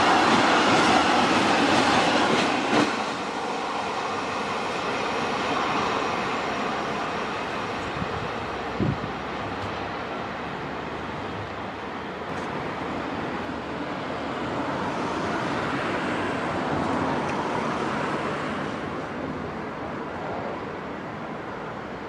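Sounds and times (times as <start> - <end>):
rushing road traffic: 0.0 - 22.0.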